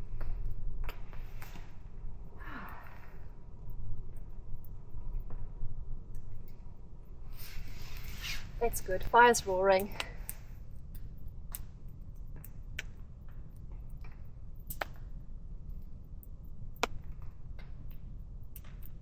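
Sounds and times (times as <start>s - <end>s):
low rumble of flames: 0.0s - 19.0s
campfire crackles and pops: 0.1s - 7.4s, 8.7s - 19.0s.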